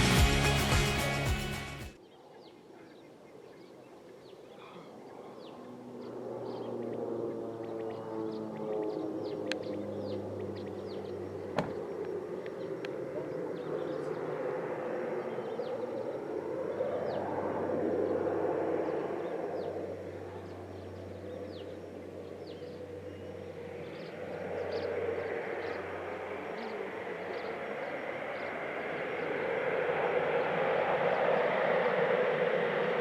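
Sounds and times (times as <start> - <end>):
turboprop plane passing low: 5.1 - 33.0.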